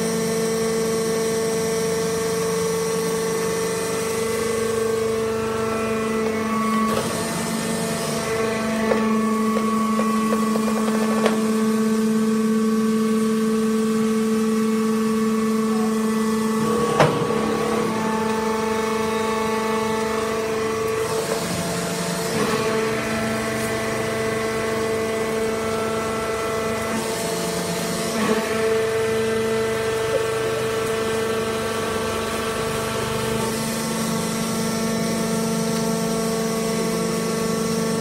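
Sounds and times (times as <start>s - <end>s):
hydraulic pump humming: 0.0s - 38.0s.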